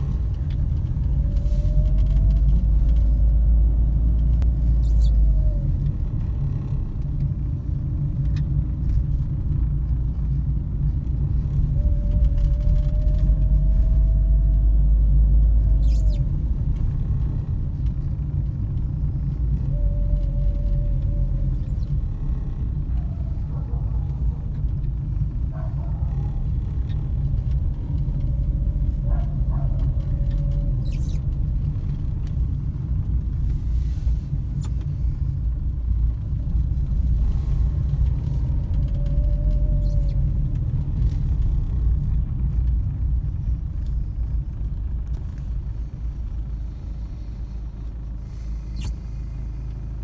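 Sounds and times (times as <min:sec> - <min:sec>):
car engine and road rumble: 0:00.0 - 0:50.0.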